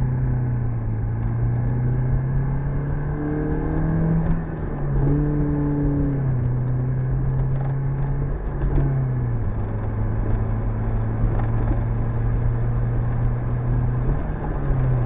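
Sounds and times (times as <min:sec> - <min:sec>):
car engine running while driving: 0:00.0 - 0:15.0
road rumble: 0:00.0 - 0:15.0.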